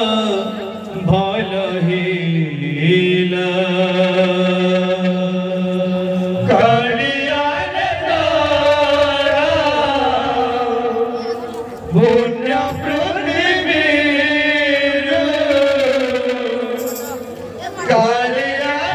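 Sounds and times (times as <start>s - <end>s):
devotional singing: 0.0s - 18.9s.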